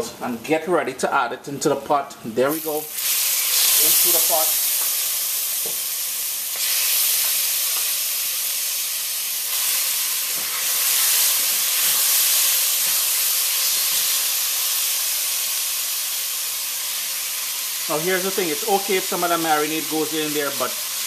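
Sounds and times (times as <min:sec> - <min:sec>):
meat sizzling in a pot: 0:02.5 - 0:21.0.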